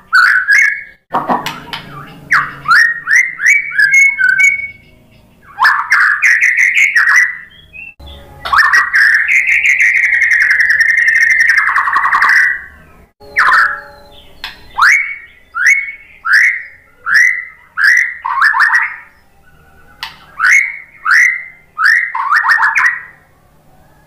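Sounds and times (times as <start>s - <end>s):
bird singing whistled phrases: 0.0s - 23.3s.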